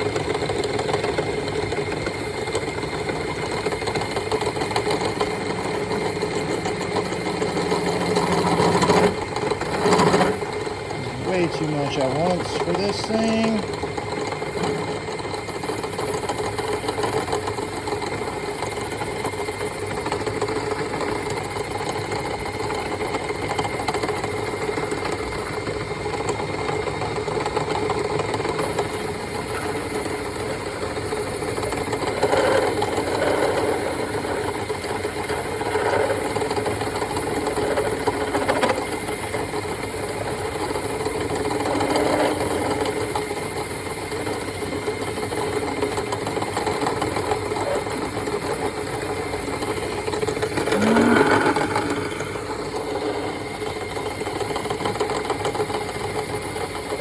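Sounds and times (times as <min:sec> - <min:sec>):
lathe running with rattle: 0:00.0 - 0:57.0.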